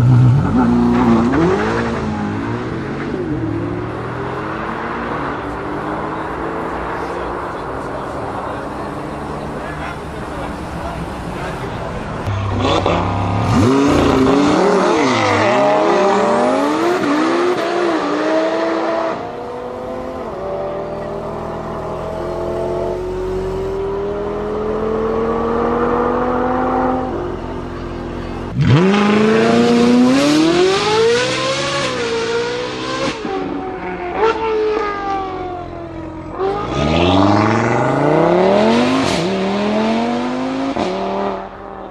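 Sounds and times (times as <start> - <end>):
supercar engines accelerating hard: 0.0 - 41.9.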